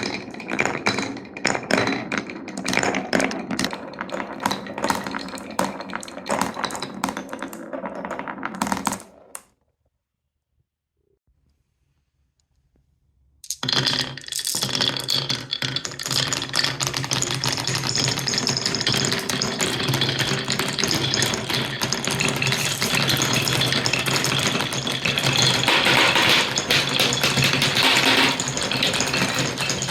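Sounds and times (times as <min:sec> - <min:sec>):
marbles rolling down wooden blocks: 0:00.0 - 0:09.5, 0:13.4 - 0:29.9.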